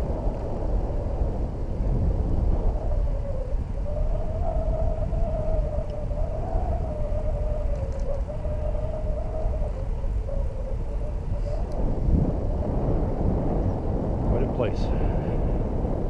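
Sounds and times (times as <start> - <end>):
steady wavering hum: 0.0 - 16.0
wind and road noise: 0.0 - 16.0.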